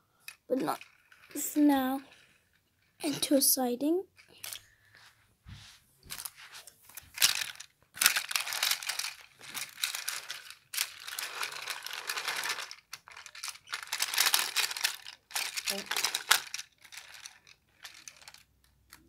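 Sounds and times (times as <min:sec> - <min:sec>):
plastic toy train crinkling: 0:00.2 - 0:03.4, 0:04.1 - 0:04.7, 0:06.0 - 0:19.0.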